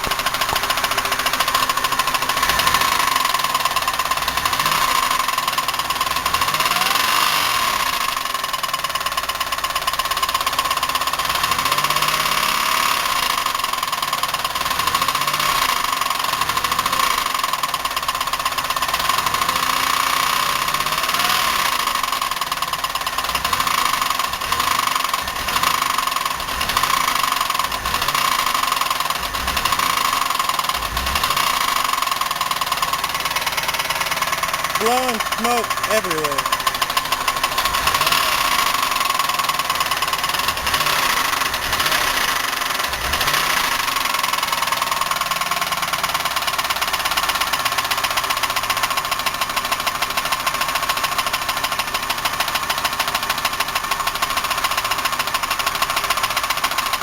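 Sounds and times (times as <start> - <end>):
engine knocking clatter: 0.0 - 34.8, 36.2 - 57.0
car engine idling rough: 0.0 - 57.0.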